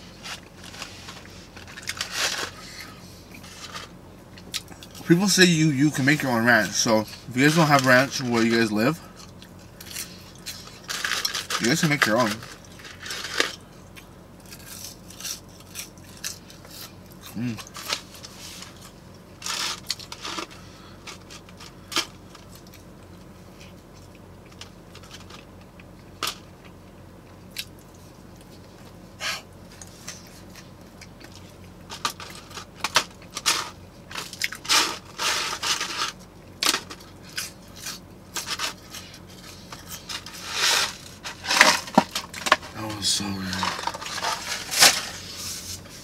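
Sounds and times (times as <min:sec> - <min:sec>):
crunching onion rings: 0:00.1 - 0:05.1, 0:06.0 - 0:46.0.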